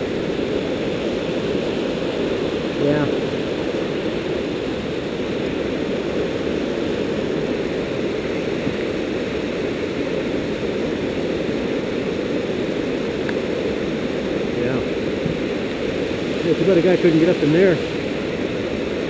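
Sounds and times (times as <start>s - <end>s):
water rushing through rapids: 0.0s - 19.0s.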